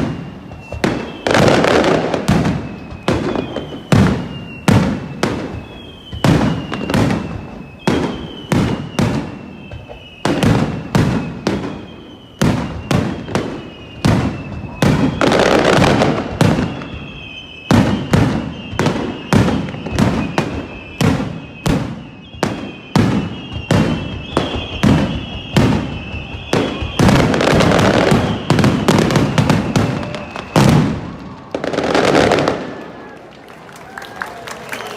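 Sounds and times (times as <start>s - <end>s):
fireworks bangs: 0.0s - 34.9s
fireworks crackling: 0.0s - 34.9s
fireworks whistling down: 0.0s - 34.9s.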